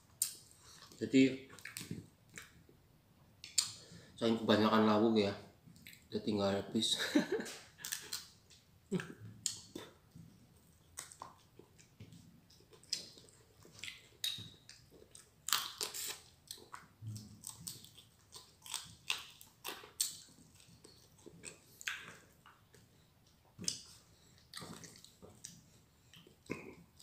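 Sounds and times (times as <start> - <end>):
chewing and crunching food: 0.2 - 2.7, 7.8 - 27.0.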